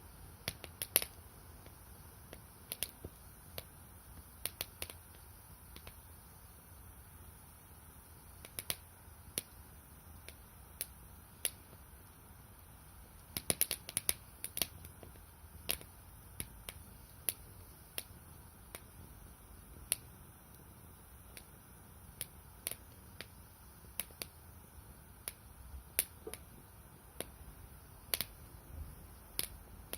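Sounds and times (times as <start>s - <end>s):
firewood crackling and popping: 0.3s - 6.2s, 8.2s - 24.5s, 25.2s - 27.4s, 28.0s - 29.9s.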